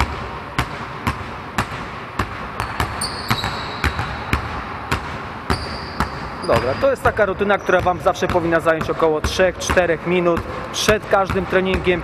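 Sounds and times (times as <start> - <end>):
basketballs bouncing on gym floor: 0.0 - 12.0.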